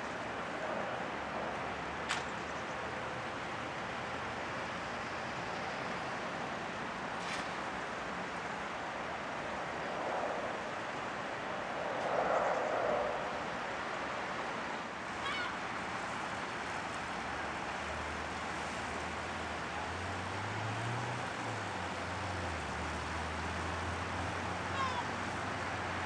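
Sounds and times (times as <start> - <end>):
rushing outdoor noise: 0.0 - 26.0.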